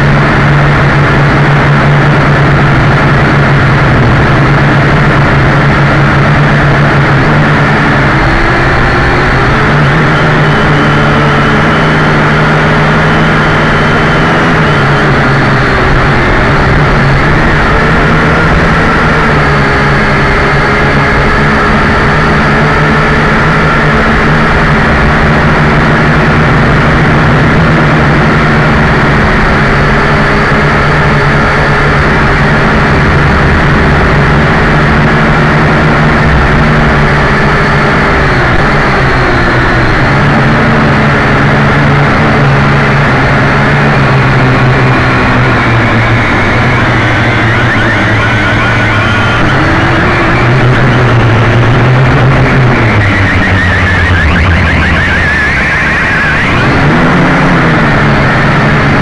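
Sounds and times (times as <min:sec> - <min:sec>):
quadcopter propellers whirring: 0:00.0 - 0:59.0.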